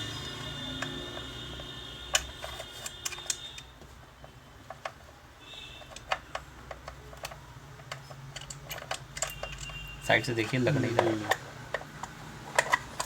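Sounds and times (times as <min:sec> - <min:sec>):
metal tools clicking and tapping: 0:00.0 - 0:13.0.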